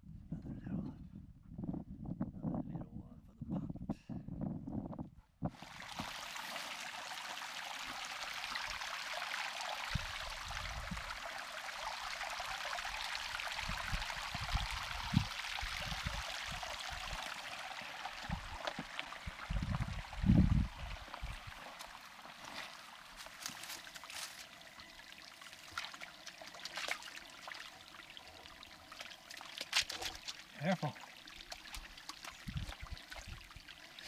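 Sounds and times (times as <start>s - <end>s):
creek splashing over rocks: 5.5s - 34.0s.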